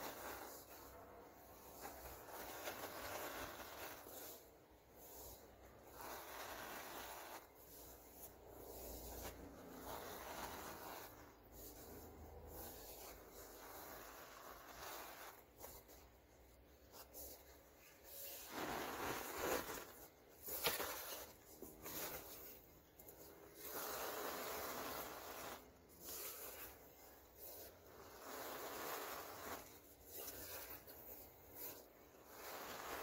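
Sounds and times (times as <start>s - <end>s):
hands crumbling dry powder: 0.0s - 4.5s, 5.1s - 16.1s, 18.2s - 33.0s.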